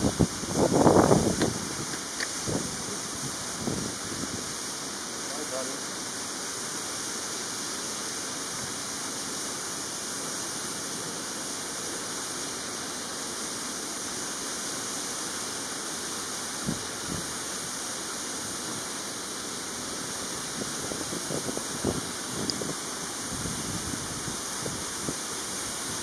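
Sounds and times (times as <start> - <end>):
steady hiss-like rushing noise: 0.0 - 26.0.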